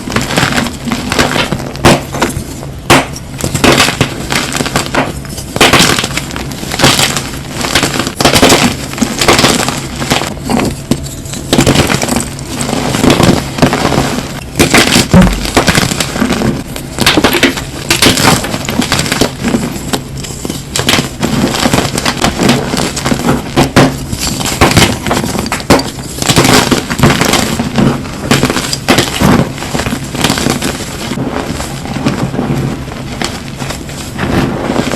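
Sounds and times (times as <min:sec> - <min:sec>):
brittle material crunching: 0:00.0 - 0:34.9.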